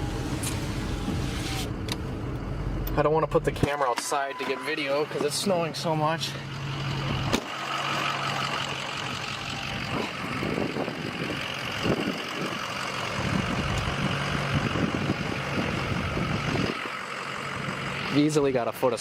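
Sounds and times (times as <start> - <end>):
low rumbles: 0.0 - 3.8, 4.7 - 19.0
truck engine hum: 0.0 - 19.0.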